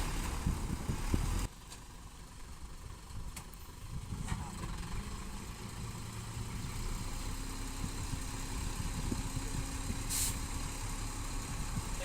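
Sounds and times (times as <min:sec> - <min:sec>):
diesel machinery engine drone: 0:00.0 - 0:12.0.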